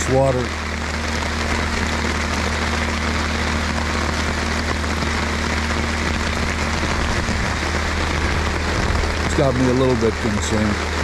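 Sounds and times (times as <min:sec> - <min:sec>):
low machine hum: 0:00.0 - 0:11.0
rain on a tent: 0:00.0 - 0:11.0.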